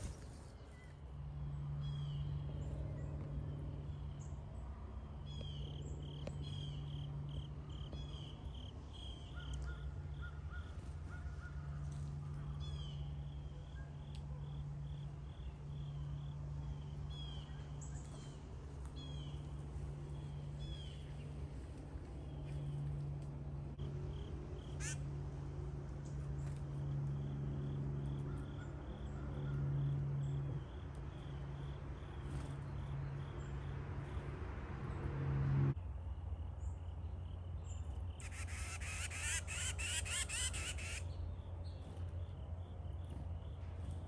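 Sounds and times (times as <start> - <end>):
steady low hum: 0.0 - 44.0
wild birds chirping: 5.2 - 25.2, 26.0 - 44.0.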